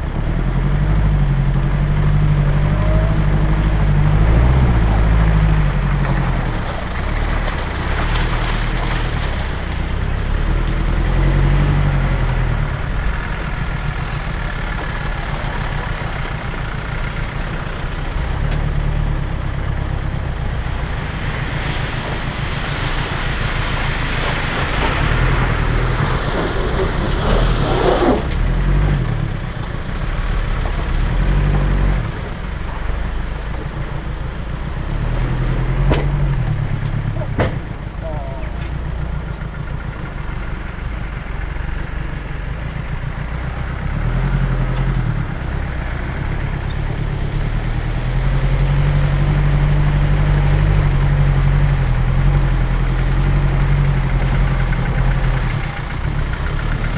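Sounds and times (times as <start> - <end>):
off-road vehicle engine running: 0.0 - 56.9.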